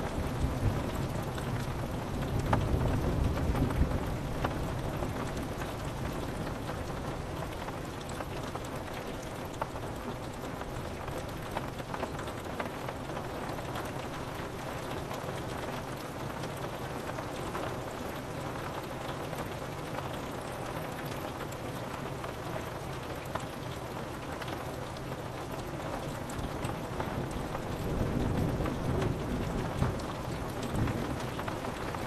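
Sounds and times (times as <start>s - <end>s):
rain on window glass: 0.0s - 32.0s.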